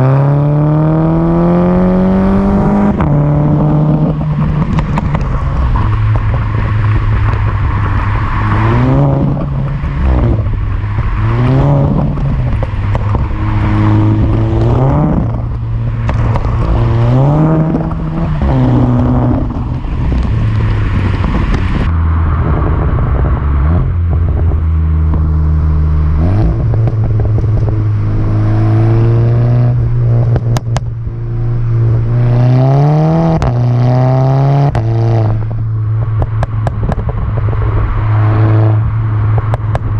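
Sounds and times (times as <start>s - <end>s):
car engine revving: 0.0s - 39.9s
exhaust pops and crackles: 2.5s - 32.4s, 34.6s - 39.9s.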